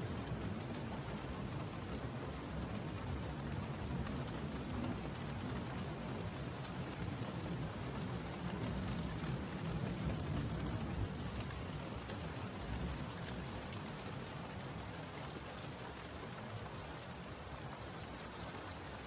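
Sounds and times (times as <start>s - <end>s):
steady rain on a surface: 0.0s - 19.0s.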